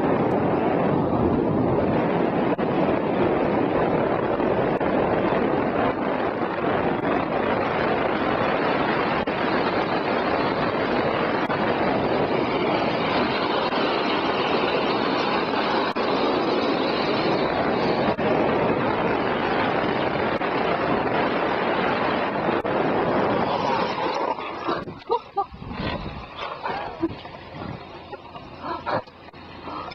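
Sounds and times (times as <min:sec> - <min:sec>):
wheels rolling on wet road: 0:00.0 - 0:29.9
wind rushing: 0:00.0 - 0:29.9.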